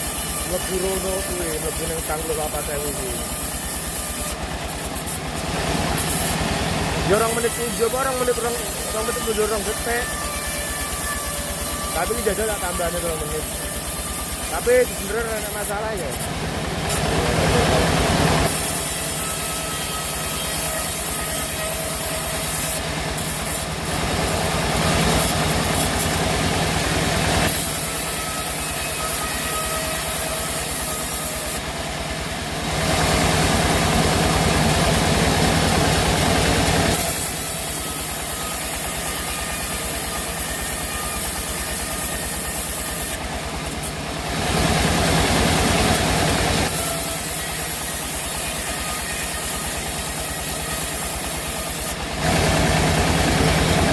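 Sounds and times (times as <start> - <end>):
sawmill machinery humming: 0.0 - 53.9.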